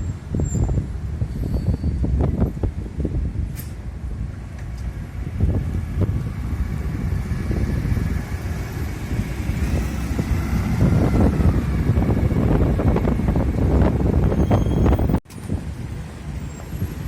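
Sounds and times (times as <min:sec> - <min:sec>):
buses and road traffic passing: 0:00.0 - 0:17.0
wind buffeting microphone: 0:00.0 - 0:17.0.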